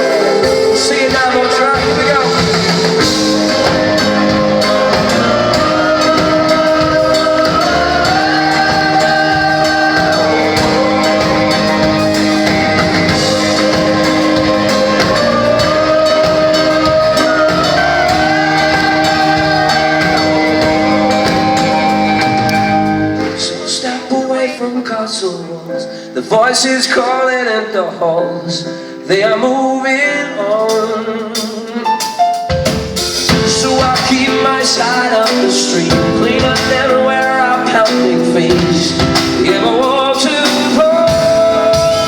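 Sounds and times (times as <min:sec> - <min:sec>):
sliding melody line: 0:00.0 - 0:24.2, 0:29.6 - 0:42.0
live rock band playing: 0:00.0 - 0:24.5, 0:29.0 - 0:42.0.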